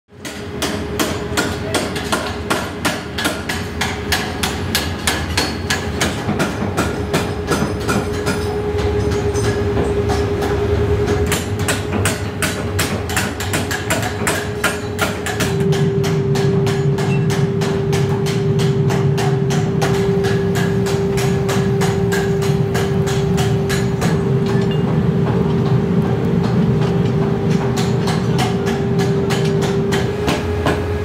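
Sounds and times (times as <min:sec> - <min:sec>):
hammer striking metal: 0:00.2 - 0:31.0
machine hum: 0:03.6 - 0:31.0.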